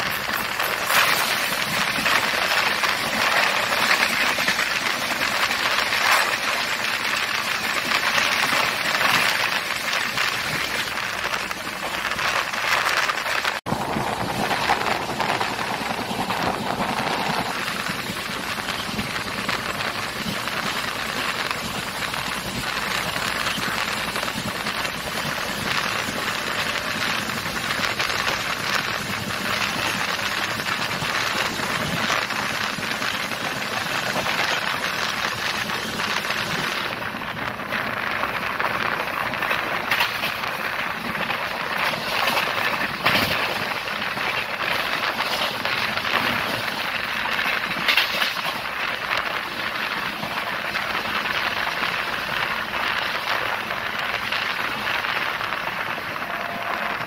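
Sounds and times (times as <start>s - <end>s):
train rushing noise: 0.0s - 57.0s.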